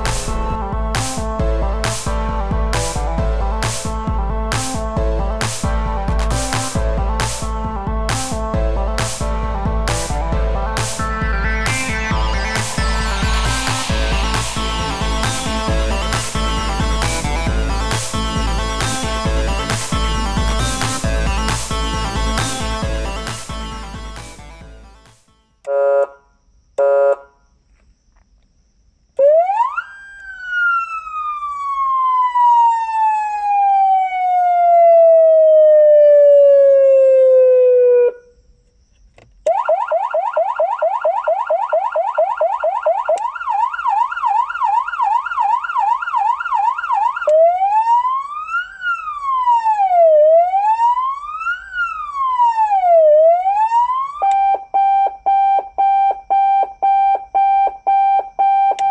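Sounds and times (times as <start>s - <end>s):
electronic police siren: 5.4s - 25.2s, 29.2s - 38.4s, 39.5s - 58.9s.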